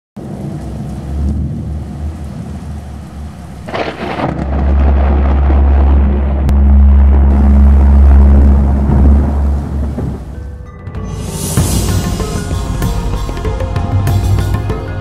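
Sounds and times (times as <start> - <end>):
thunder: 0.2 - 13.1
rain: 0.2 - 15.0
deep steady hum: 0.4 - 14.8.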